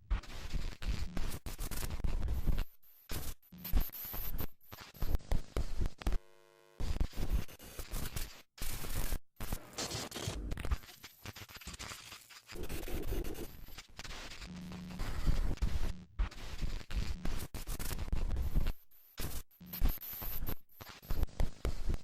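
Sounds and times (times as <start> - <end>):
crackling static: 0.1 - 22.0.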